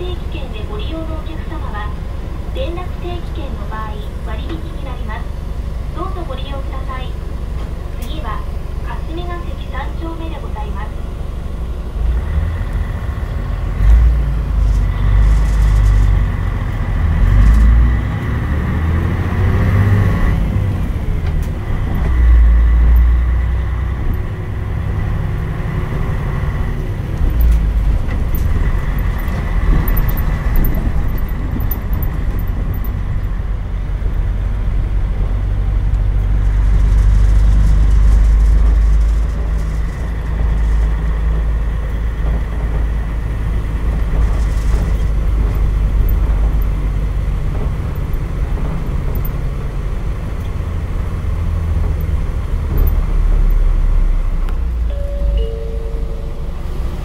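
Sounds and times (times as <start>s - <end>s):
bus diesel engine: 0.0s - 57.0s
road rumble: 0.0s - 57.0s.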